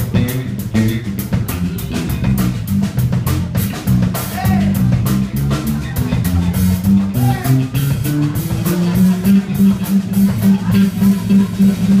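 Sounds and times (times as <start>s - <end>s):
bass repeating one note: 0.0s - 12.0s
bending guitar notes: 0.0s - 12.0s
blues-rock band playing: 0.0s - 12.0s.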